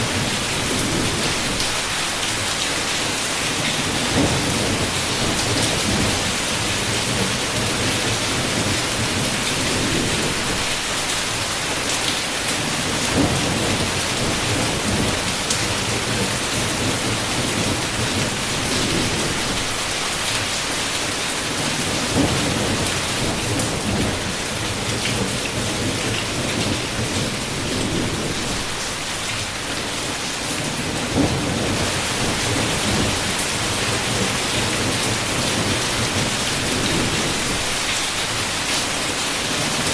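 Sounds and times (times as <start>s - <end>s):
low thunder rumbling: 0.0s - 1.9s, 3.7s - 10.8s, 12.6s - 19.9s, 21.5s - 29.3s, 30.6s - 38.5s
heavy rain on a window: 0.0s - 39.9s.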